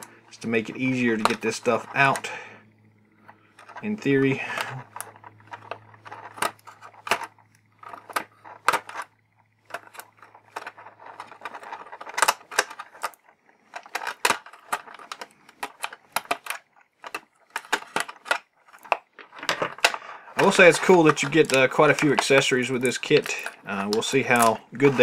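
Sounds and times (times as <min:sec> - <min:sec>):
small plastic parts clicking: 0:00.0 - 0:25.0
plastic tray crackling: 0:03.5 - 0:25.0.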